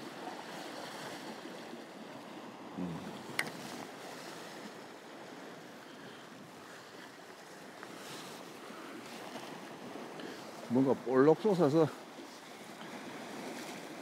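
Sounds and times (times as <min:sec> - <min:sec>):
waves washing against rocky shore: 0:00.0 - 0:14.0.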